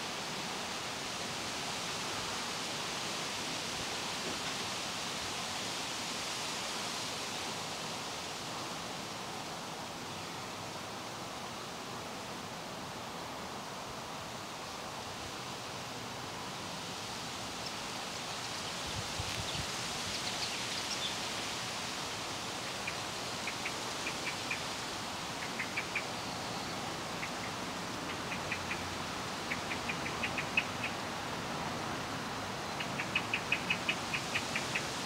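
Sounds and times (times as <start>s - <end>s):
steady rustling hiss: 0.0s - 35.0s.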